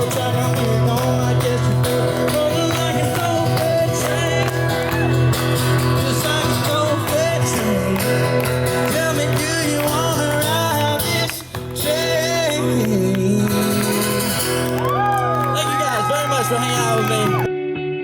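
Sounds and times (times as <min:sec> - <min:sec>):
person singing: 0:00.0 - 0:05.2, 0:05.8 - 0:17.5
country band playing: 0:00.0 - 0:17.5
guitar: 0:00.0 - 0:18.0.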